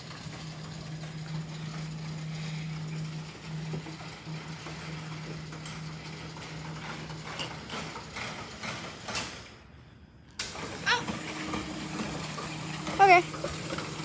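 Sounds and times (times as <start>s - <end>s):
door opener motor humming: 0.0s - 8.8s, 10.4s - 14.0s.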